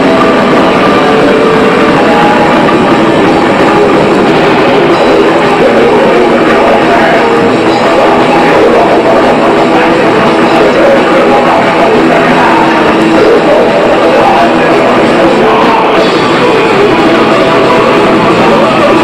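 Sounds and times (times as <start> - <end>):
distorted electric guitar: 0.0 - 19.0
drums: 0.0 - 19.0.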